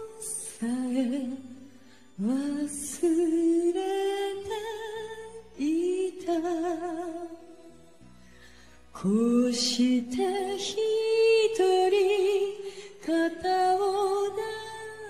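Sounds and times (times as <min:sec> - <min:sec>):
woman singing unaccompanied: 0:00.0 - 0:01.6, 0:02.2 - 0:07.5, 0:09.0 - 0:15.0.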